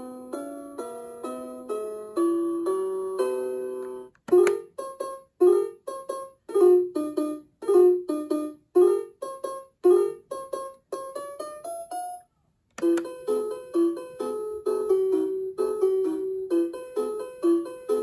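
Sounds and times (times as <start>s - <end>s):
toy piano playing tune: 0.0s - 12.2s, 12.8s - 18.0s.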